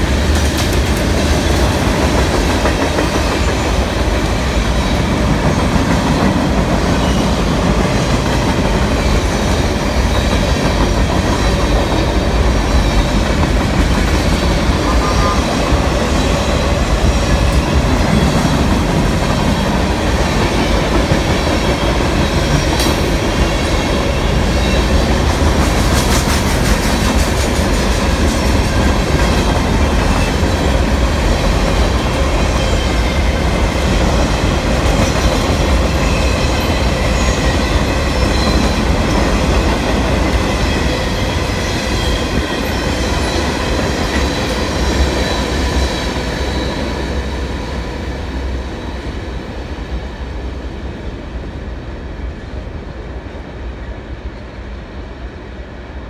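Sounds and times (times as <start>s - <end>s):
train cars clattering: 0.0s - 47.5s
train wheels rumbling on rail: 0.0s - 56.0s.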